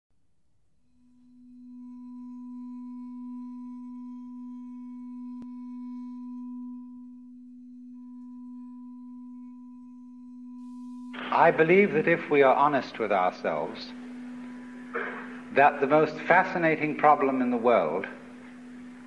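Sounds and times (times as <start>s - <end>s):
bowed vibraphone tone: 1.5s - 19.0s.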